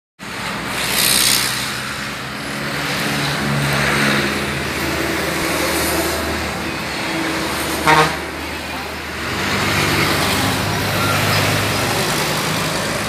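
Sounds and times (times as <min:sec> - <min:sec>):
vehicle engine passing: 0:00.3 - 0:13.0.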